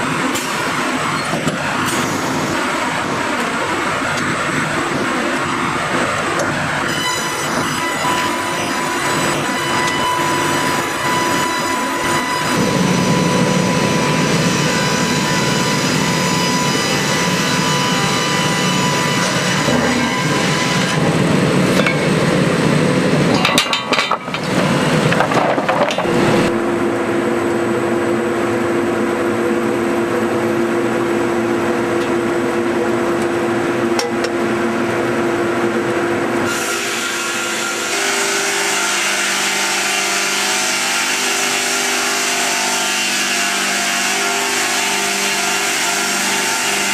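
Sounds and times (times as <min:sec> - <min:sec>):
sawmill machinery sawing logs: 0:00.0 - 0:26.6, 0:34.8 - 0:46.9.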